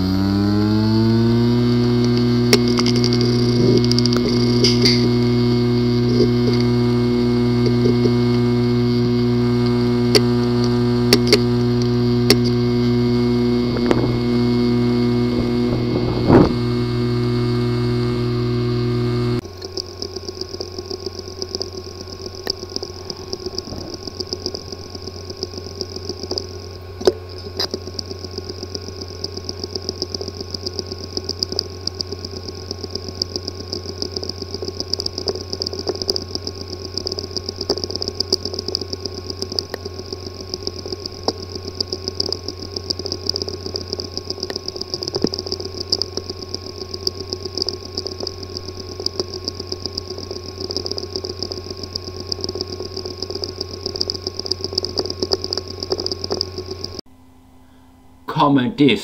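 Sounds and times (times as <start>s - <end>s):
hard disk drive humming and whining: 0.0s - 59.0s
rapid irregular ticking: 0.1s - 57.0s.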